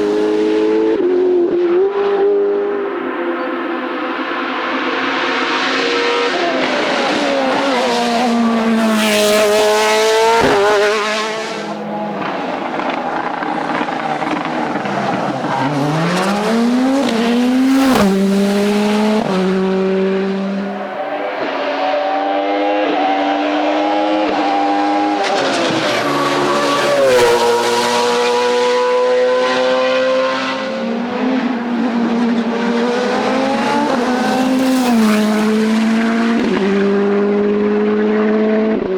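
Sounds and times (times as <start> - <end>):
racing car engine revving: 3.6 - 38.9.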